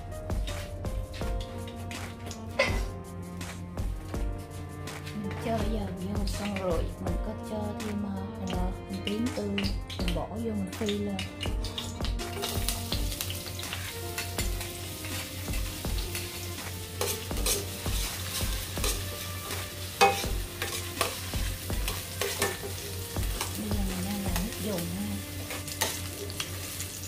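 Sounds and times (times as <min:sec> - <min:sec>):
shallots sizzling in oil: 0:00.3 - 0:27.0
utensil scraping a pot: 0:04.3 - 0:27.0.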